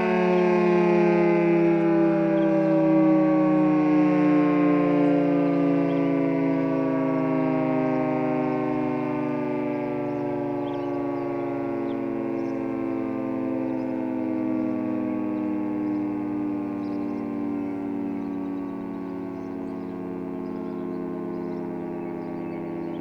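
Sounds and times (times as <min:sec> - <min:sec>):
two-tone warning siren: 0:00.0 - 0:23.0.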